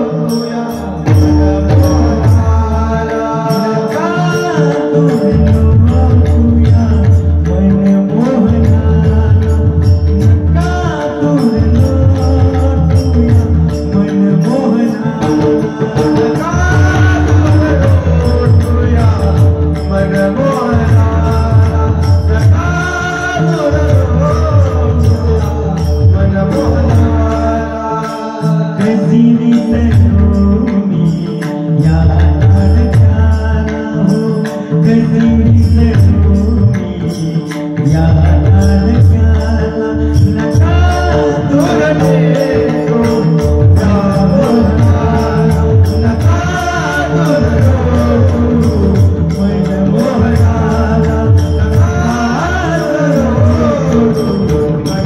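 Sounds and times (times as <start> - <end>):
man singing ornamented melody: 0.0 - 55.0.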